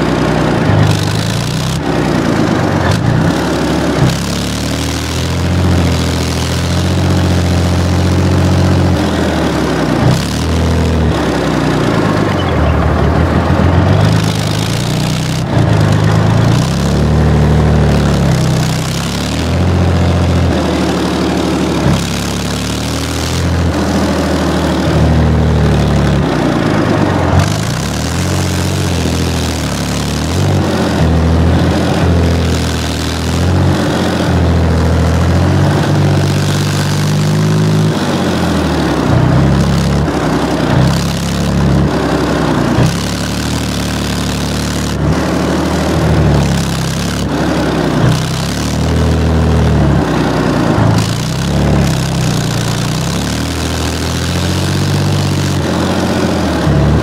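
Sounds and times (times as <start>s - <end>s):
armoured vehicle engine revving: 0.0s - 57.0s.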